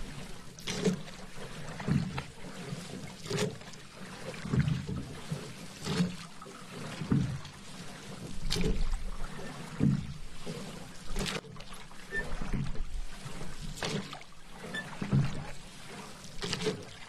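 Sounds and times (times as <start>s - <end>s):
gentle wash of water: 0.0s - 17.0s
paddle strokes splashing in water: 0.0s - 17.0s.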